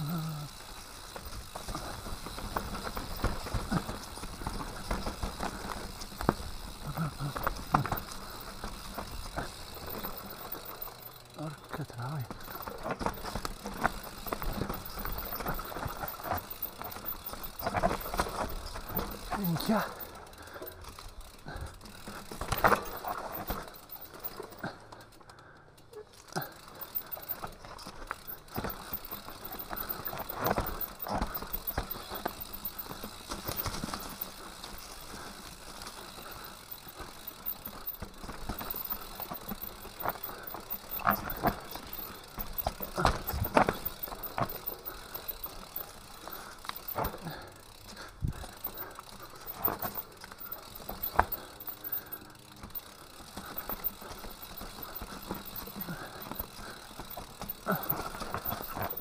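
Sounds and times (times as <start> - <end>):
bike clattering over stones: 0.0 - 25.2, 26.2 - 59.0
bike tyres on dirt: 0.0 - 59.0.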